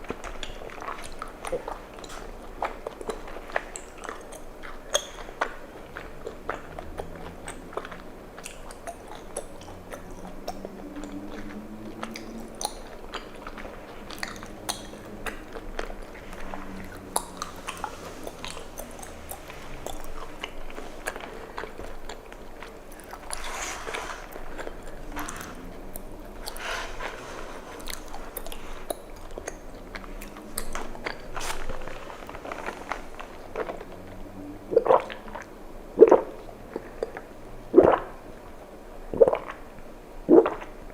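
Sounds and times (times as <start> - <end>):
chewing with wet mouth clicks: 0.0 - 38.6.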